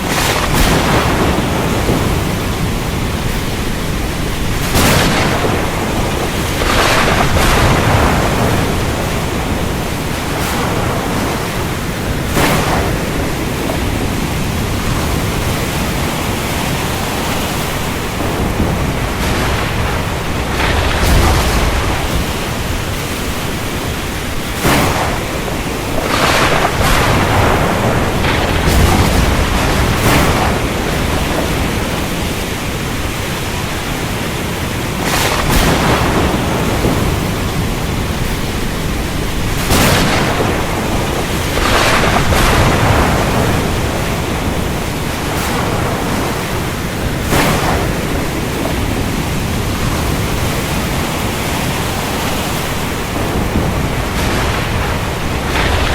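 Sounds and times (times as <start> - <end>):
low thunder rumbles: 0.0 - 55.9
rain hiss: 0.0 - 55.9
sharp thunder cracks: 0.0 - 55.9.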